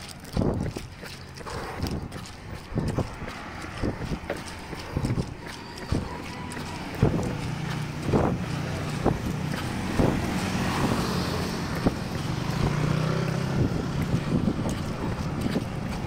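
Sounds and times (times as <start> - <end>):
passing vehicle engine hum: 0.0 - 16.0
soft thumps of footsteps: 0.0 - 16.0
wind buffeting microphone: 0.0 - 16.0.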